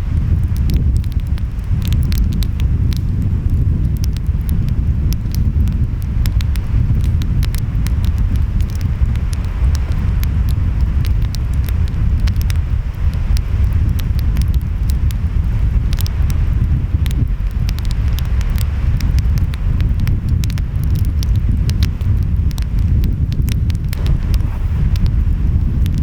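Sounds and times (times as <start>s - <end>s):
wind: 0.0s - 26.0s
wood fire crackling and popping: 0.0s - 26.0s.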